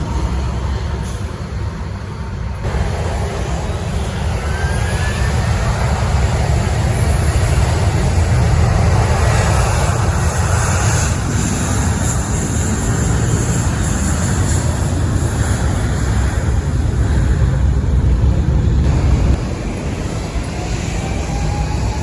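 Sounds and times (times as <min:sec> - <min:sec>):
jet airliner passing: 0:00.0 - 0:22.0
faint rising whine: 0:02.6 - 0:22.0.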